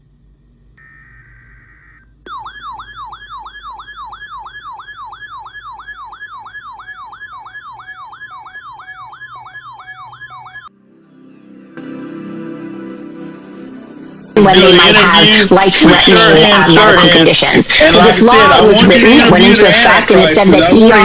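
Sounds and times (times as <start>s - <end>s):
siren yelp sweeping up and down: 0.8s - 18.8s
high electronic beep: 2.3s - 19.4s.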